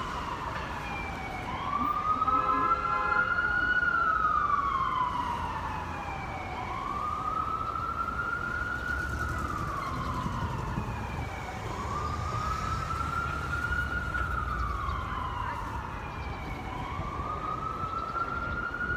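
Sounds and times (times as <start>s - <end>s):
emergency siren wailing: 0.0s - 18.9s
street traffic rumble: 0.0s - 18.9s.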